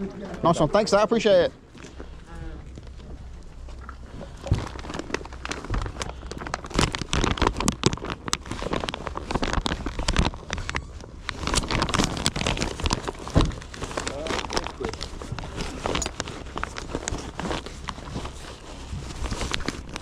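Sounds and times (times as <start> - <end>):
rustling and crackling handling noise: 0.0 - 20.0.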